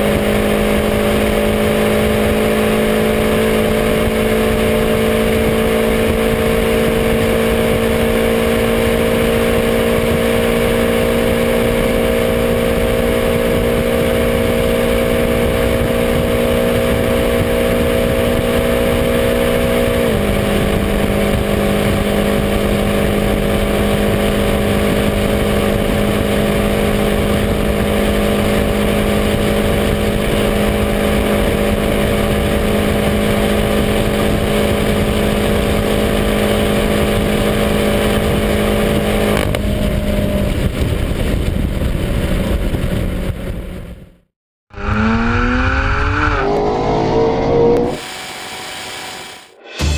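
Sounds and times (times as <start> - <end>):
car engine at full throttle: 0.0 - 49.9
wind and road noise: 0.0 - 49.9.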